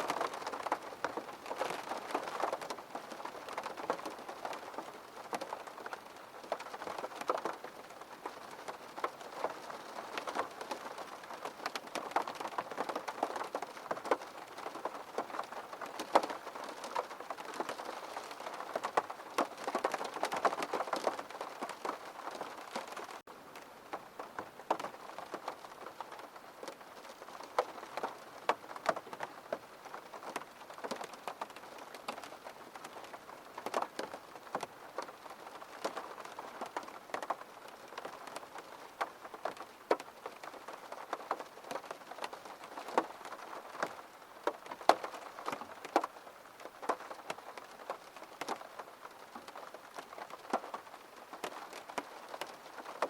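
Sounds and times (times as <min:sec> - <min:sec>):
rain on a window pane: 0:00.0 - 0:53.0.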